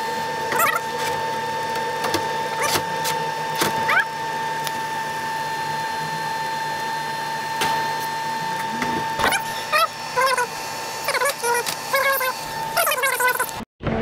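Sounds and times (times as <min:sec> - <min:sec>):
welder high-pitched whine: 0:00.0 - 0:13.6.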